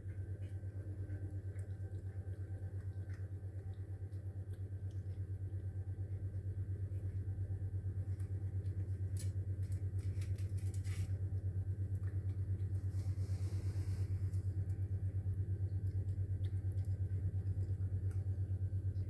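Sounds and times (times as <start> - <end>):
low pulsing hum: 0.0 - 19.0.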